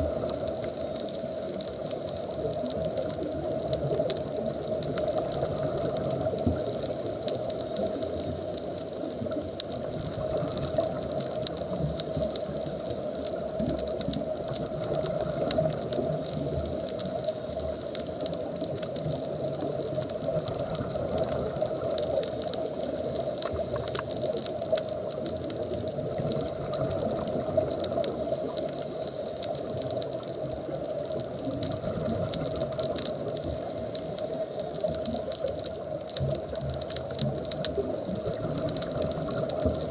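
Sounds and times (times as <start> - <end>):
faint underwater clicks: 0.0 - 39.9
underwater hiss and hum: 0.0 - 39.9.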